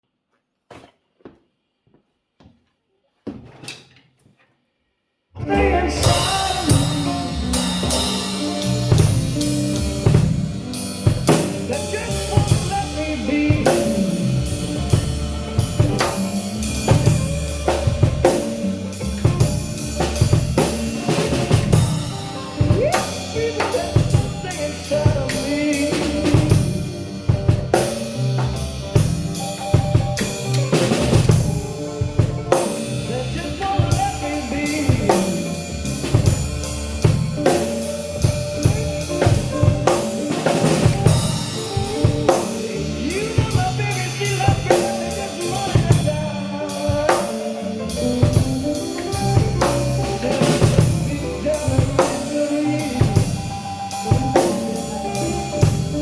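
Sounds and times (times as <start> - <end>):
blues-rock band playing: 5.4 - 56.0.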